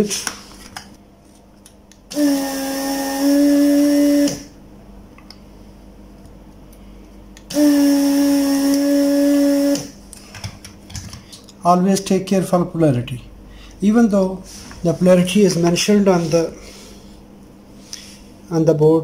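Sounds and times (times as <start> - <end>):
desoldering pump humming: 0.0 - 19.0.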